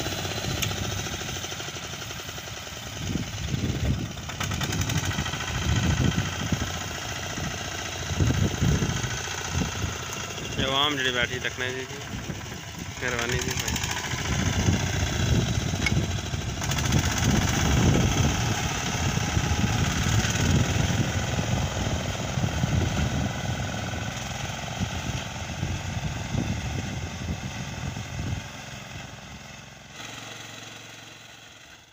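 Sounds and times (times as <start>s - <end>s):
reaper binder engine running: 0.0s - 31.9s.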